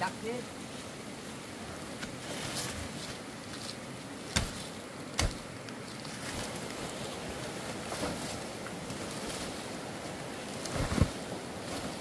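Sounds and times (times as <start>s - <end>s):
branches and thatch rustling: 0.0s - 12.0s.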